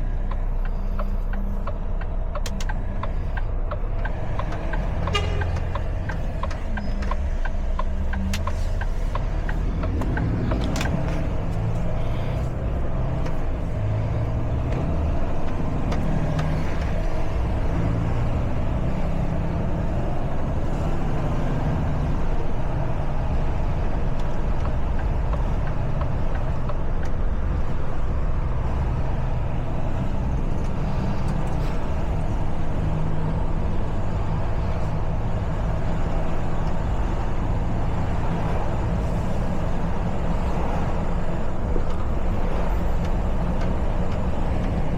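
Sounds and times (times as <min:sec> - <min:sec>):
road and traffic noise: 0:00.0 - 0:44.9
truck diesel engine running: 0:00.0 - 0:44.9.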